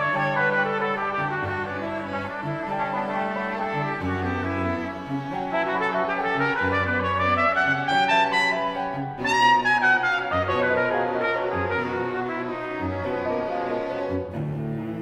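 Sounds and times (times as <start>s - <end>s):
brass horn playing jazz melody: 0.0s - 3.7s, 5.5s - 14.2s
string quartet: 0.0s - 15.0s
sustained cello notes: 0.0s - 15.0s.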